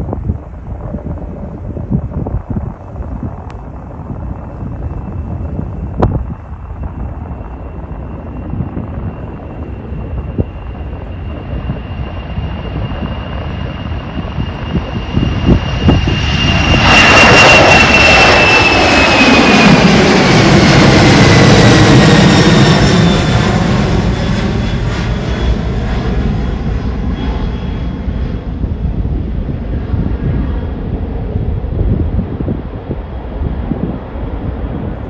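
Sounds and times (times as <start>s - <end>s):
jet airliner taking off: 0.0s - 35.0s.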